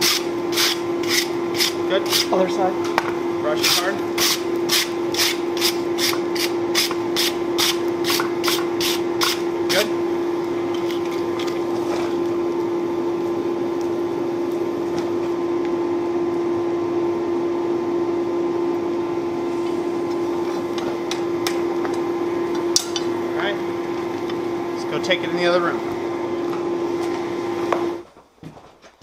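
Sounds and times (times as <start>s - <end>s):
forge blower humming: 0.0s - 28.2s.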